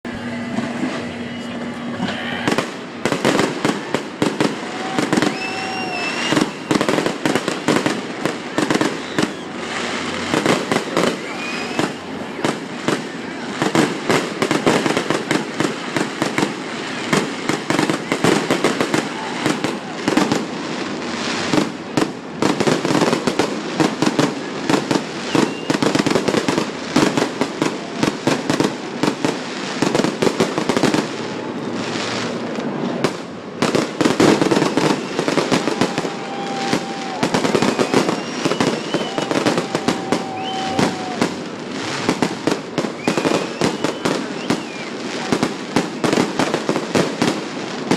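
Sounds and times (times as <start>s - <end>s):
fireworks bangs and crackling: 0.1s - 47.9s.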